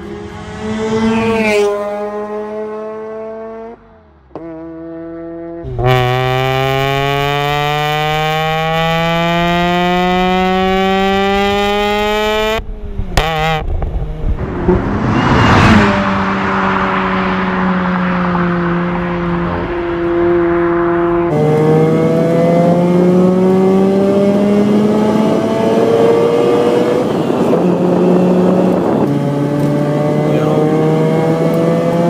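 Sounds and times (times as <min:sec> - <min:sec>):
rotary engine accelerating: 0:00.0 - 0:12.6, 0:13.2 - 0:32.0.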